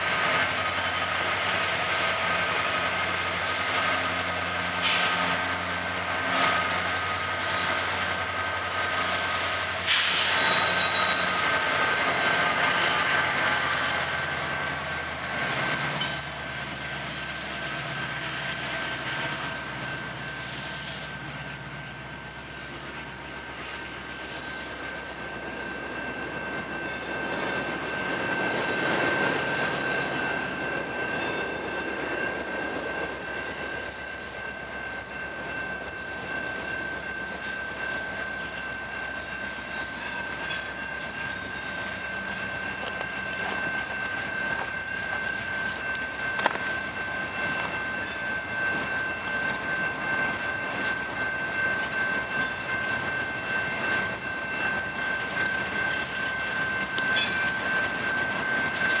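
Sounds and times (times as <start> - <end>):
locomotive hum: 0.0 - 59.0
train wheel squeal: 0.0 - 59.0.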